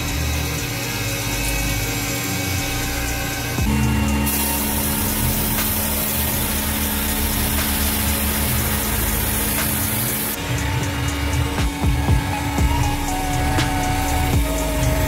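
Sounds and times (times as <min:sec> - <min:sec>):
cnc mill spindle tone: 0:00.0 - 0:15.0
hiss of coolant spray and cutting: 0:00.0 - 0:15.0.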